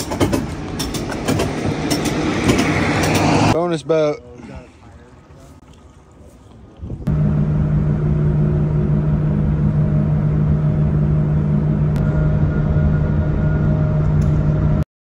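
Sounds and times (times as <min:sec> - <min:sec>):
ferry engines droning: 0:00.0 - 0:14.8.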